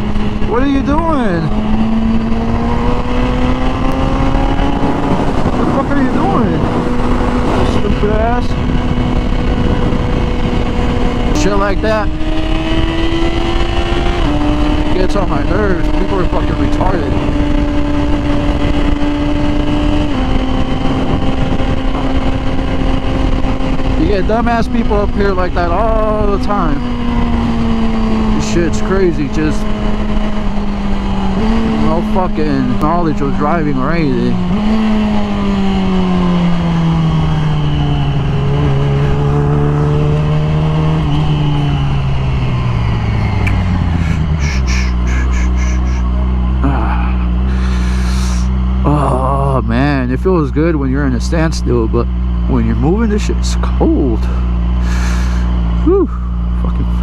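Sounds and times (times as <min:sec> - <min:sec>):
wind rumble on microphone: 0:00.0 - 0:50.1
sport bike engine cruising: 0:00.0 - 0:57.0.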